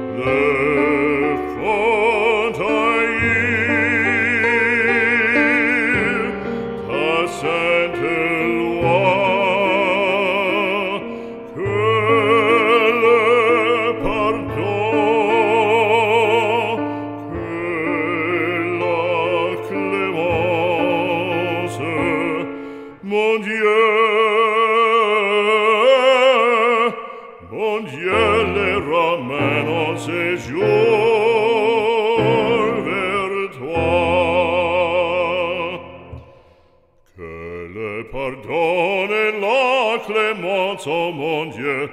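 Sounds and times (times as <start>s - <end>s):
person singing operatically: 0.0s - 36.2s, 37.1s - 41.9s.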